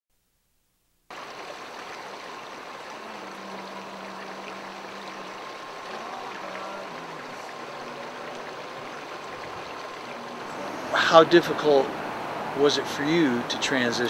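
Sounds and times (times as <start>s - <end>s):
stream of running water: 1.1s - 14.0s.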